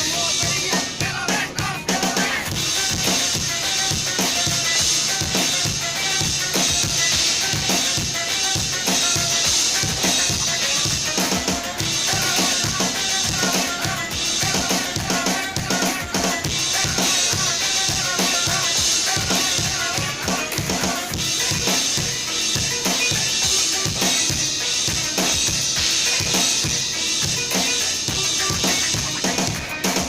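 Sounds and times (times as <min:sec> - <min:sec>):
drum kit playing: 0:00.0 - 0:30.0
pop-dance backing track: 0:00.0 - 0:30.0.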